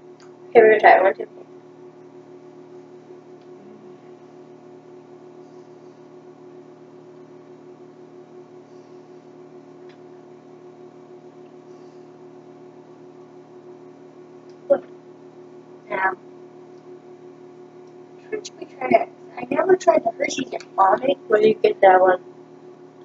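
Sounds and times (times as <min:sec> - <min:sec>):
low hum of held tones: 0:00.0 - 0:23.0.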